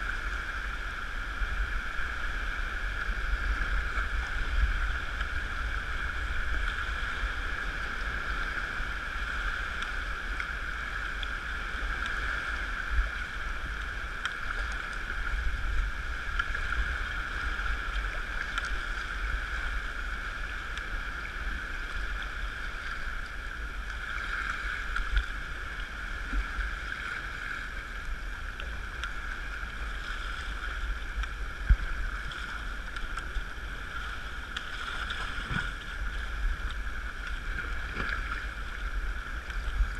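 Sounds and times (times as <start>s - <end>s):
water rushing: 0.0s - 39.9s
wind rumbling on microphone: 0.0s - 39.9s.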